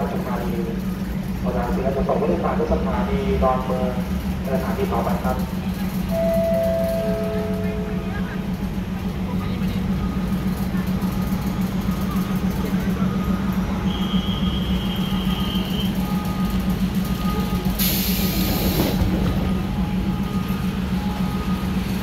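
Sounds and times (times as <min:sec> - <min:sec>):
train idling drone: 0:00.0 - 0:22.0.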